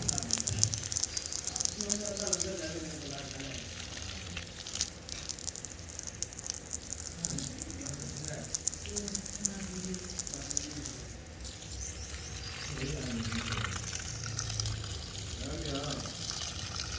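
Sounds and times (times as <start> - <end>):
water running from a tap: 0.0 - 16.9.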